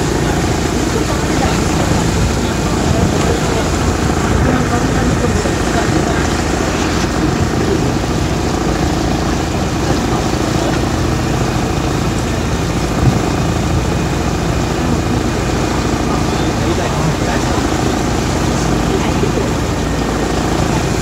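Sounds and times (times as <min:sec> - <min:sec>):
boat engine running: 0:00.0 - 0:21.0
water rushing along hull: 0:00.0 - 0:21.0.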